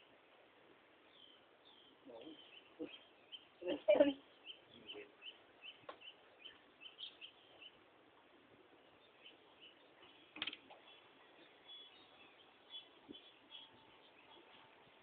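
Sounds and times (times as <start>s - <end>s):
faint bird chirps: 1.1s - 7.8s, 8.8s - 15.0s.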